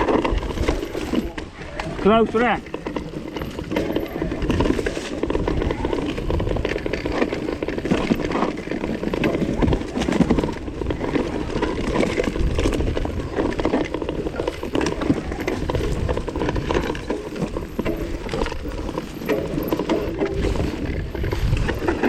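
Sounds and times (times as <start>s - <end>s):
bike rattling over rough trail: 0.0s - 22.0s.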